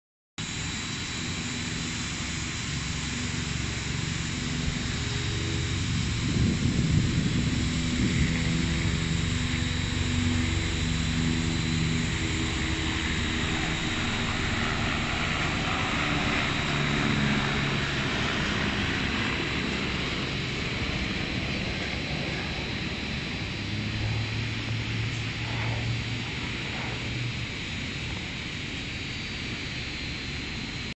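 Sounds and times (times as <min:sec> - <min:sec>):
aircraft engine drone: 0:00.4 - 0:30.9
city background hiss: 0:00.4 - 0:30.9.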